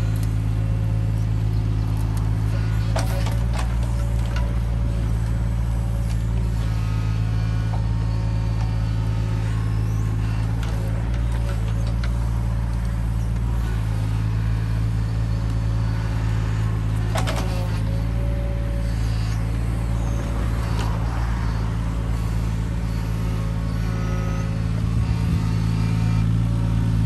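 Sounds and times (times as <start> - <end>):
digger diesel engine running: 0.0 - 27.0
hydraulic whines: 0.0 - 27.0.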